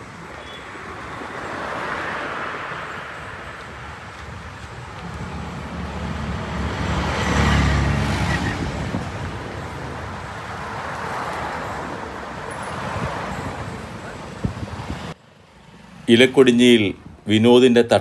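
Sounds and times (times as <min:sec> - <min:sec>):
motor scooters passing: 0:00.0 - 0:16.1
car passing: 0:00.0 - 0:16.8
steady traffic noise: 0:00.0 - 0:18.0
motorbike approaching: 0:00.2 - 0:15.2.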